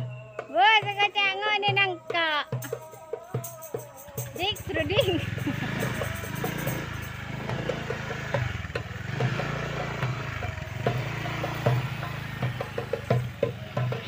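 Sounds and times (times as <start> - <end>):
engine idling: 2.5 - 14.0.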